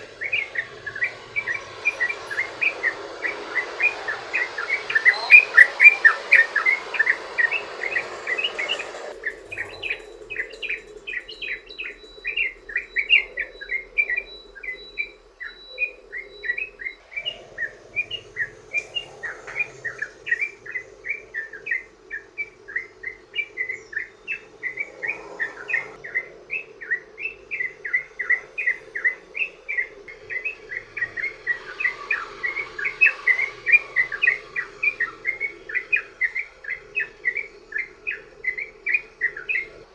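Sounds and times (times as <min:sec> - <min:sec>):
hiss: 0:00.0 - 0:14.6, 0:15.8 - 0:38.8
bird singing rapid chattering notes: 0:00.0 - 0:39.9.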